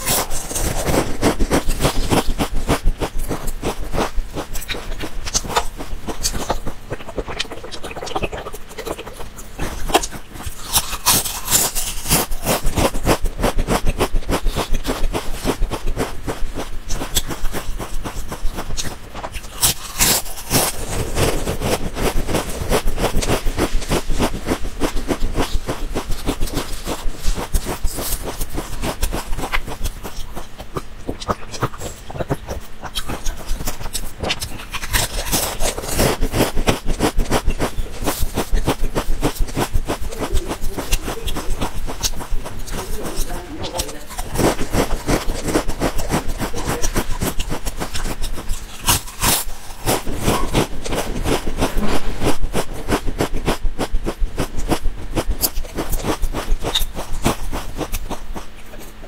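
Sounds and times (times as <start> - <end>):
crisps crunching: 0.0 - 59.0.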